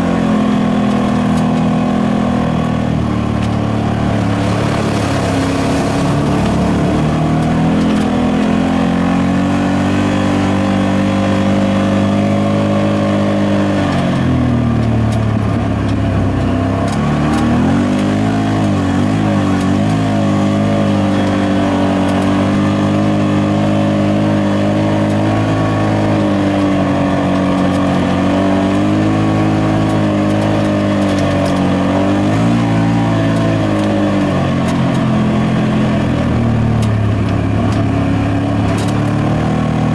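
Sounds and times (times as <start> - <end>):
utility vehicle engine revving: 0.0 - 39.9.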